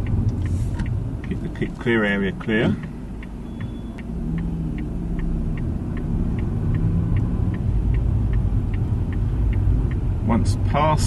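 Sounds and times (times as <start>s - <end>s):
car engine rumble: 0.0s - 11.0s
road noise: 0.0s - 11.0s
turn signal ticking: 0.0s - 11.0s.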